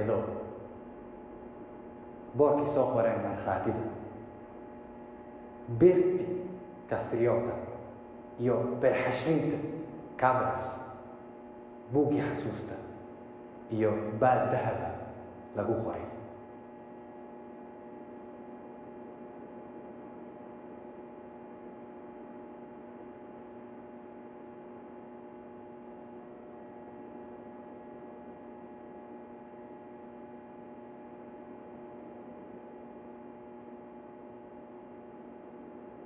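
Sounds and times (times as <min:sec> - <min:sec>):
hum of held tones: 0:00.0 - 0:36.0.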